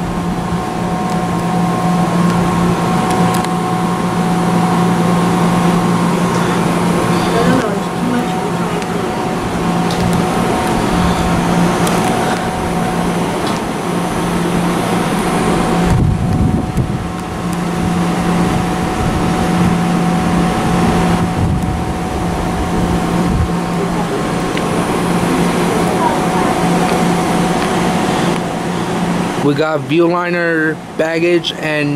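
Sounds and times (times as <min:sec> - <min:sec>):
low droning tone: 0:00.0 - 0:31.8
high-pitched whine: 0:00.0 - 0:31.9
train mechanical hum and rumble: 0:00.0 - 0:31.9.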